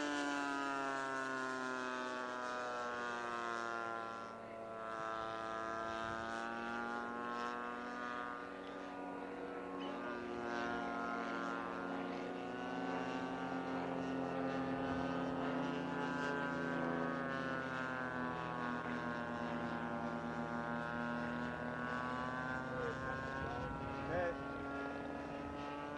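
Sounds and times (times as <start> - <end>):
model airplane engine buzzing: 0.0 - 25.9.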